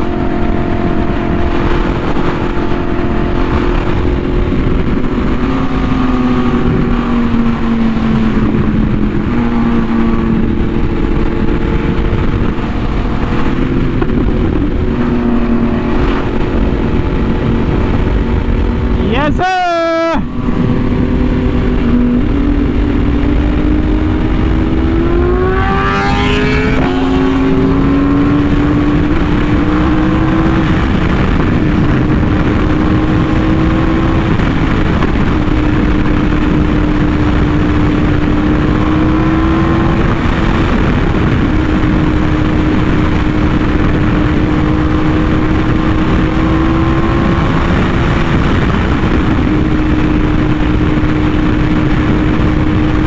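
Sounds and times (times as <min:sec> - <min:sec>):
motorcycle engine revving: 0:00.0 - 0:53.0
wind noise: 0:00.0 - 0:53.0.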